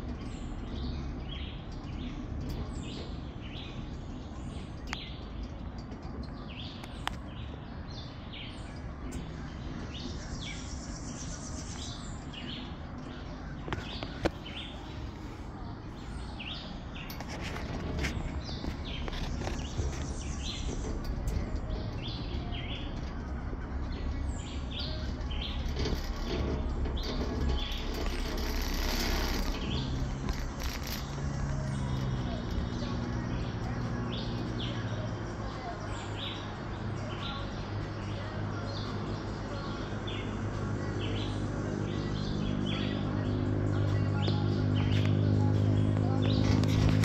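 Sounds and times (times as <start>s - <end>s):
birds chirping: 0.0s - 47.0s
chairlift low hum: 0.0s - 47.0s
low steady rumble: 0.0s - 47.0s.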